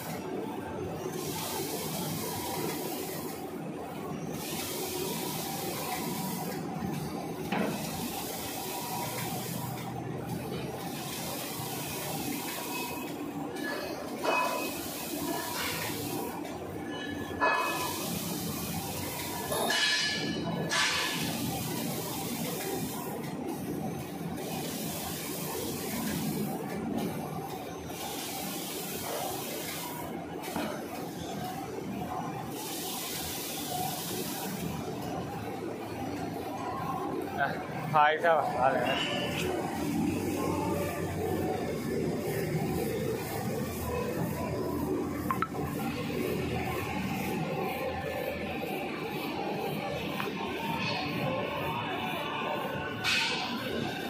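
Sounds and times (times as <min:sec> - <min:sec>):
machine mechanical hum: 0:00.0 - 0:54.0.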